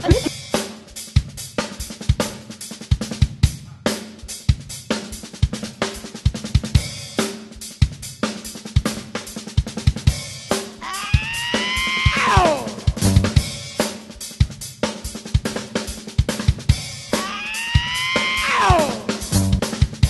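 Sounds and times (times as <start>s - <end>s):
music with drum-kit beat: 0.0s - 20.0s.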